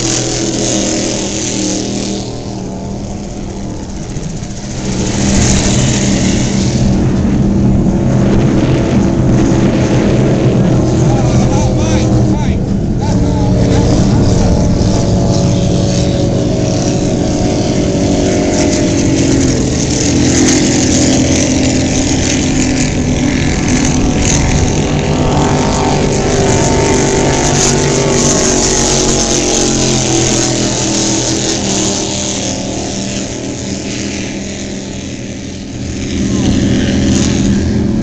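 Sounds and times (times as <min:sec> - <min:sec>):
powerboat engines droning: 0:00.0 - 0:38.0
wind and water hiss: 0:00.0 - 0:38.0.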